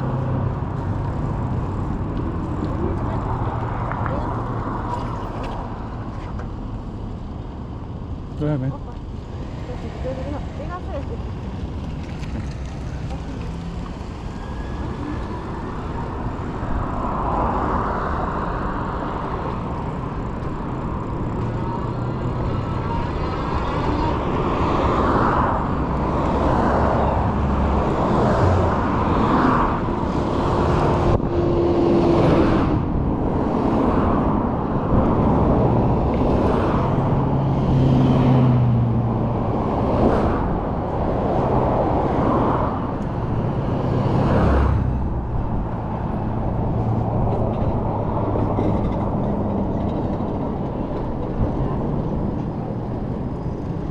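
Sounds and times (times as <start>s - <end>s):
cars passing: 0.0s - 53.9s
road noise: 0.0s - 53.9s.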